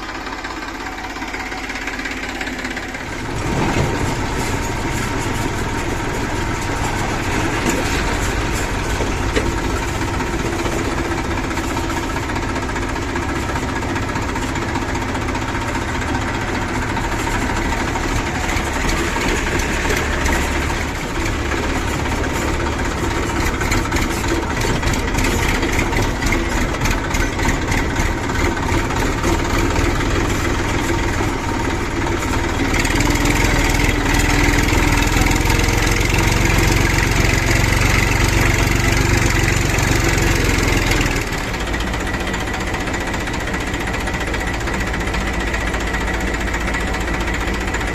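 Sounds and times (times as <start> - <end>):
diesel engines running: 0.0 - 47.9.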